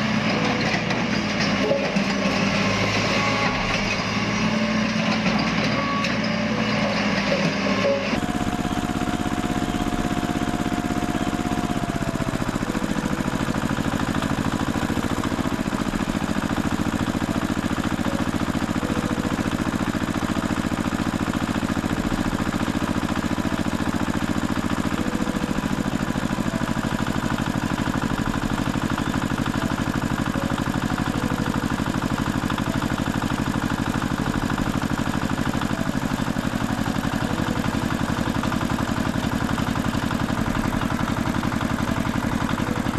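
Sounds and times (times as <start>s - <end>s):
engine running then idling: 0.0s - 42.9s.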